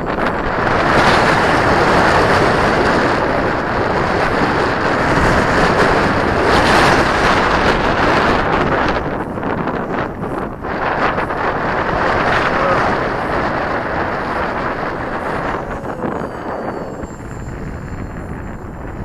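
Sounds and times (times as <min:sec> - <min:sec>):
gusty wind buffeting microphone: 0:00.0 - 0:19.0.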